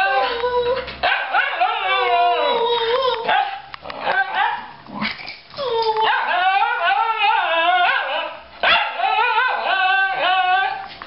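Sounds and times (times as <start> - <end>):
dog yowling: 0.0 - 4.7, 5.5 - 10.9.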